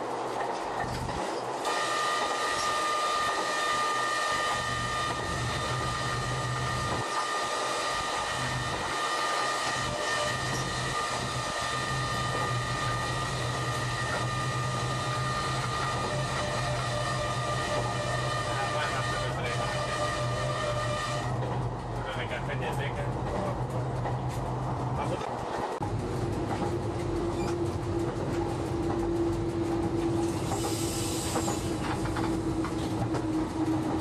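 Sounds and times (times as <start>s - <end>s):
locomotive engine drone: 0.0s - 34.0s.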